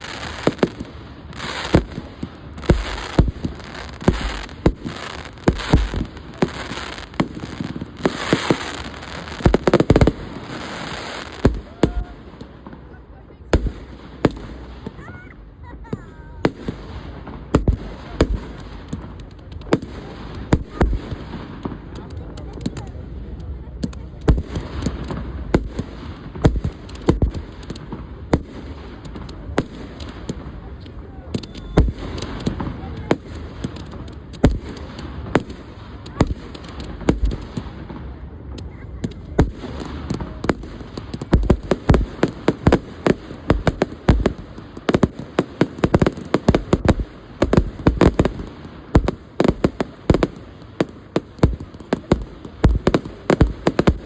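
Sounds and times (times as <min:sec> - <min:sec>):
fireworks bangs: 0:00.0 - 0:54.0
fireworks pops and crackles: 0:00.0 - 0:54.0.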